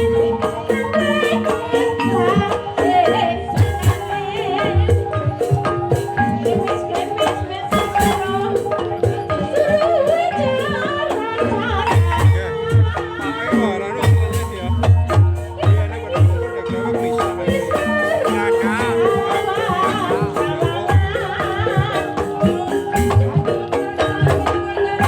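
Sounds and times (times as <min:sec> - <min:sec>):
drum strokes: 0:00.0 - 0:25.0
mallet-struck keyed instruments: 0:00.0 - 0:25.0
person singing wavering vocal: 0:00.0 - 0:25.0.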